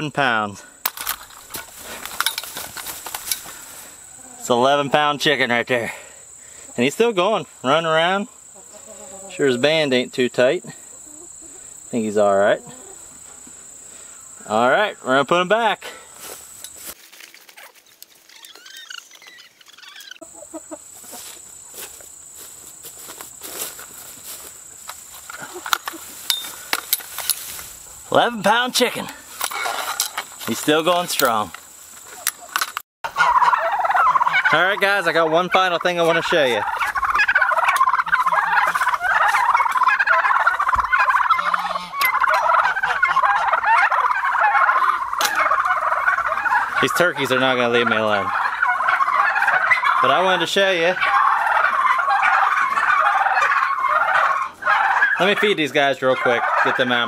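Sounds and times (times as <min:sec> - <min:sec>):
chickens clucking: 0:00.2 - 0:57.0
turkeys gobbling: 0:00.6 - 0:57.0
chickens peeping: 0:01.2 - 0:16.6, 0:17.6 - 0:57.0.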